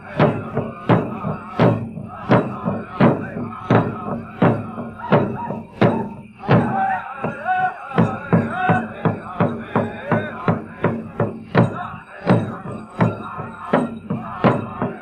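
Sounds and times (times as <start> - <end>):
big drum beating: 0.0 - 15.0
voices singing: 0.0 - 15.0.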